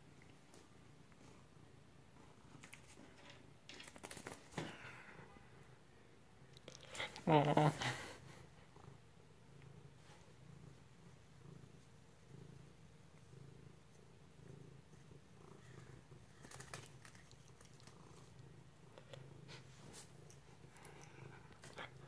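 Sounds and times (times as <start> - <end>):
cat purring: 0.0 - 5.4, 6.3 - 22.0.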